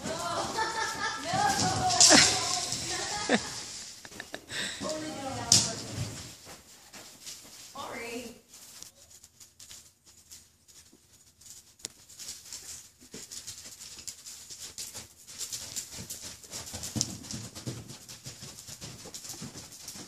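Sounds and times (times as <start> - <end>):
horse hooves cantering on sand: 0.0 - 20.0.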